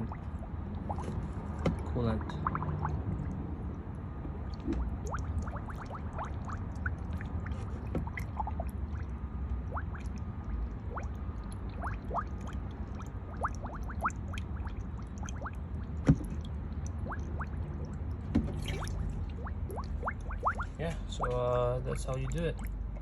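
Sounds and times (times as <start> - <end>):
coolant gurgling and bubbling: 0.0 - 23.0
low hum: 0.0 - 23.0.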